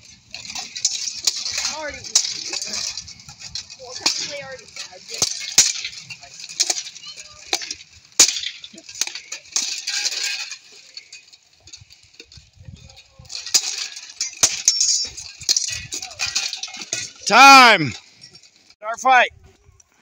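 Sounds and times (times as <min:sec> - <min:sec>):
metal weapons clanging: 0:00.0 - 0:18.7
plate armour clanking: 0:00.0 - 0:18.7.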